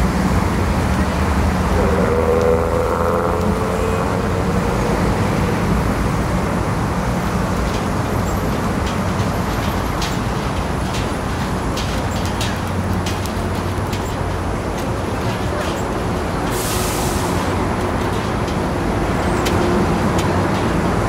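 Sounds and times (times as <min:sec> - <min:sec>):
city road traffic rumble: 0:00.0 - 0:21.0.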